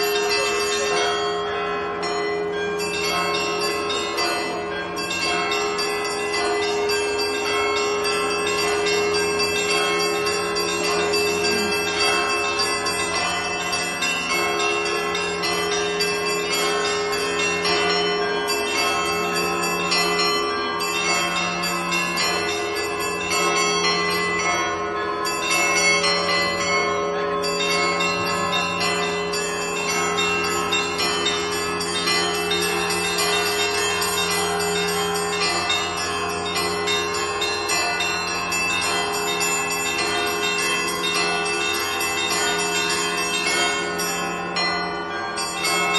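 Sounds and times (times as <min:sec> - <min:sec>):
large bells humming: 0:00.0 - 0:45.9
small bells striking quickly: 0:00.0 - 0:45.9.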